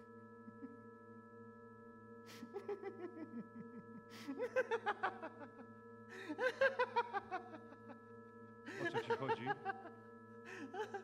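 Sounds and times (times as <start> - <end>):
drone of held tones: 0.0 - 11.0.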